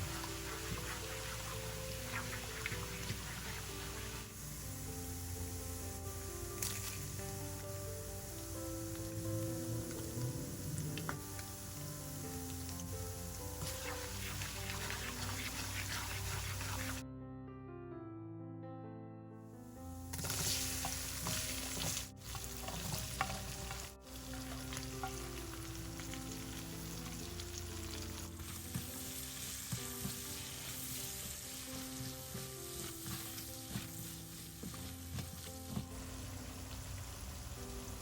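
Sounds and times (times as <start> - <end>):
food sizzling in oil: 0.0 - 17.0, 20.0 - 38.0.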